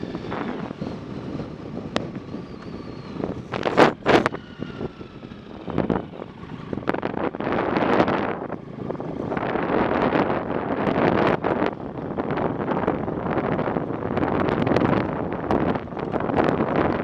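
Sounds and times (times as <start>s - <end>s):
rumbling bike ride noise: 0.0s - 17.0s
wind rushing over microphone: 0.0s - 17.0s.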